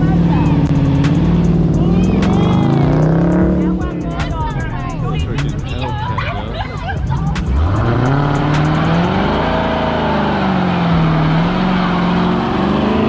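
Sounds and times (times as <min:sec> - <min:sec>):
car engine revving hard: 0:00.0 - 0:04.2, 0:04.8 - 0:13.0
steady rushing noise: 0:00.0 - 0:13.0.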